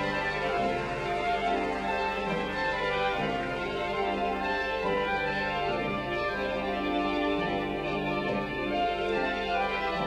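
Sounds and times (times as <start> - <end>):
slow orchestral music with strings: 0.0 - 10.0.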